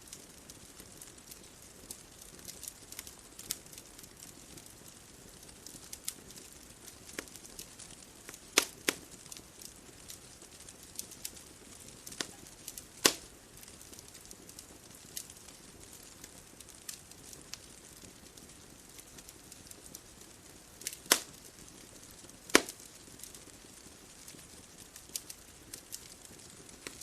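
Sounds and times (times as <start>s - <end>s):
bonfire crackling: 0.0s - 27.0s
faint steady hiss: 0.0s - 27.0s
sharp fire pops: 0.1s - 27.0s.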